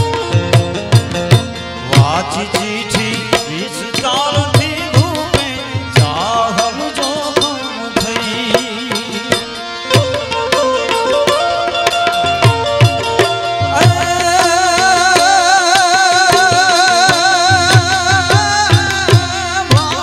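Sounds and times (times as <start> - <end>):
harmonium melody: 0.0 - 20.0
tabla and dholak drumming: 0.0 - 20.0.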